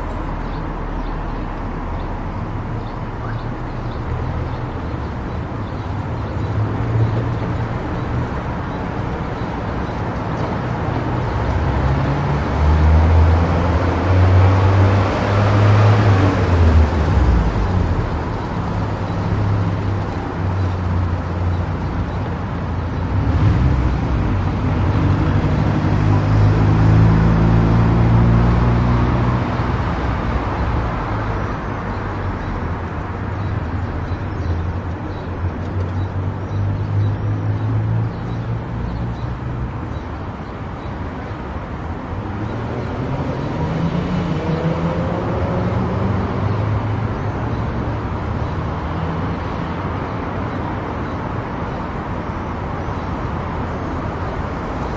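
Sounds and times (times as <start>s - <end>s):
tyre and road noise: 0.0s - 54.9s.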